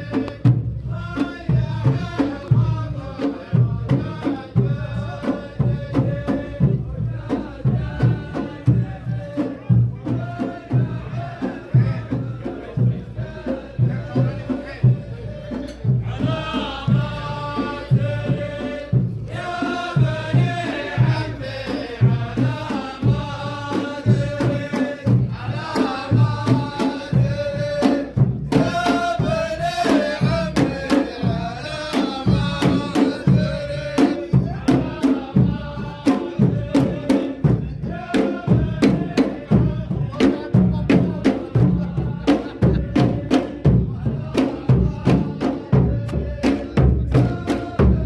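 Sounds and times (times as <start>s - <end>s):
drums beating: 0.0s - 48.0s
group chanting a melody: 0.0s - 48.0s.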